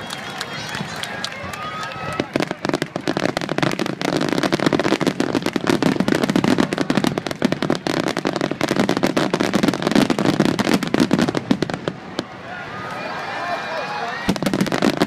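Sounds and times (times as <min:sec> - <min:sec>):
fireworks bursts and bangs: 0:00.0 - 0:12.3, 0:14.2 - 0:15.0.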